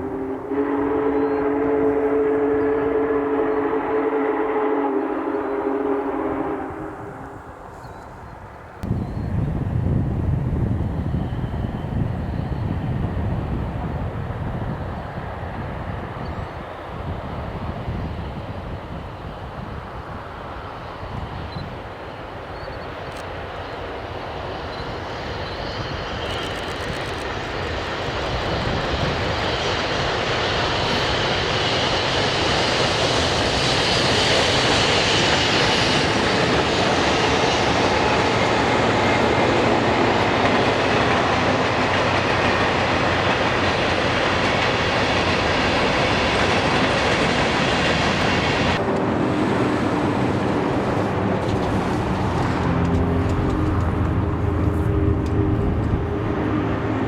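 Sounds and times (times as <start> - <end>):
train rolling past: 0.0 - 57.0.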